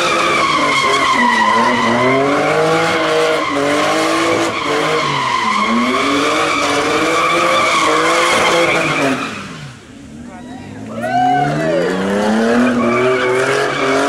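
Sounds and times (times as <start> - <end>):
tyres squealing: 0.0 - 9.6, 10.2 - 14.0
car engine revving: 0.0 - 14.0.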